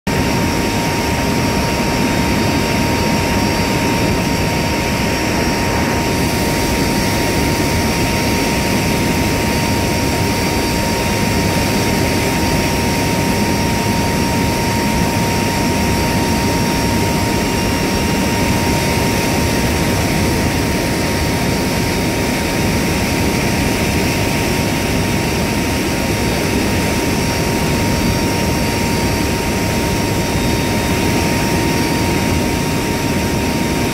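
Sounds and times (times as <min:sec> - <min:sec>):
aircraft propellers droning: 0:00.1 - 0:33.9.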